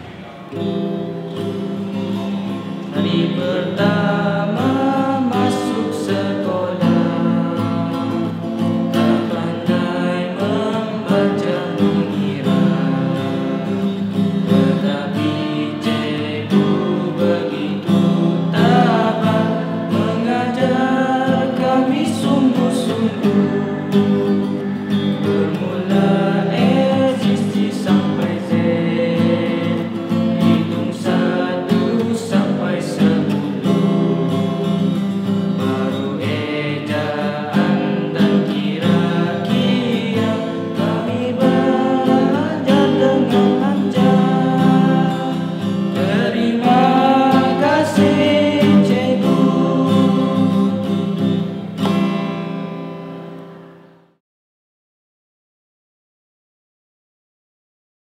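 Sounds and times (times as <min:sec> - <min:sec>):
classical guitar chords: 0:00.0 - 0:54.2
young man singing: 0:02.7 - 0:51.2.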